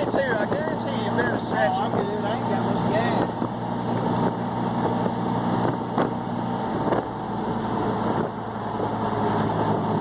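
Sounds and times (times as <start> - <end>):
engine drone inside vehicle: 0.0 - 10.0
tyre and road noise: 0.0 - 10.0.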